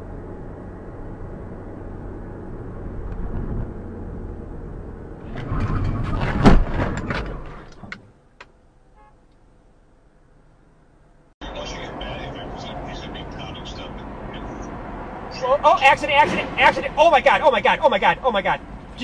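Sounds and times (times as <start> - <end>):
road noise inside moving car: 0.0 - 19.0.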